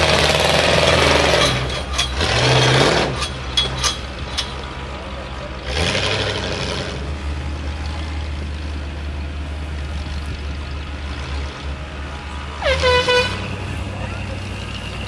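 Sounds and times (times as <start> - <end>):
utility vehicle engine rumble: 0.0 - 15.0.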